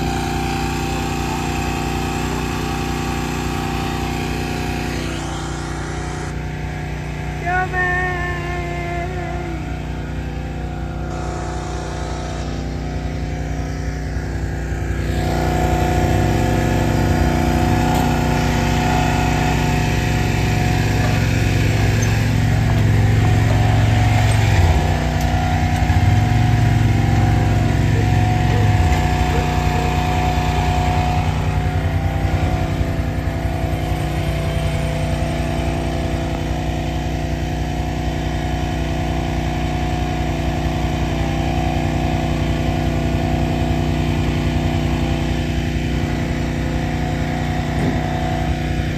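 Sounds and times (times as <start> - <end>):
small gasoline engine running: 0.0 - 48.9.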